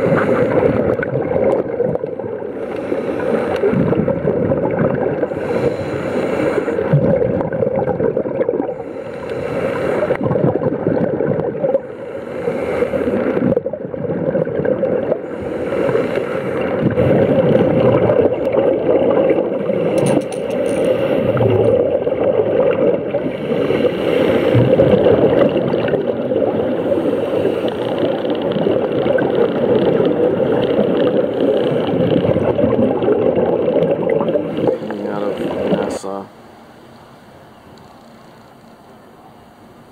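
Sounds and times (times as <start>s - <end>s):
gurgle of exhaled bubbles: 0.0s - 5.8s, 6.4s - 9.0s, 9.9s - 20.0s, 21.0s - 36.1s
muffled underwater water rush: 0.0s - 39.9s.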